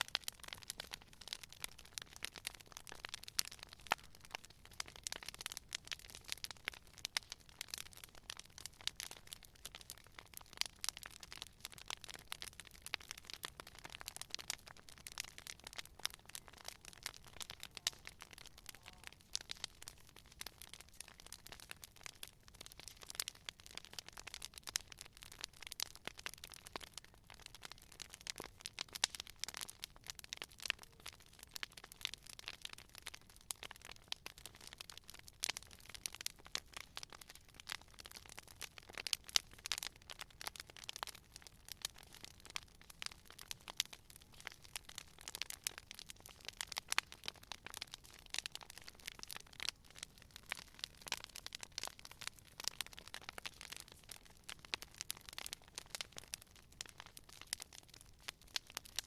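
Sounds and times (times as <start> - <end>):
sharp cracks of fire: 0.0 - 59.0
wood fire crackling: 0.0 - 59.0.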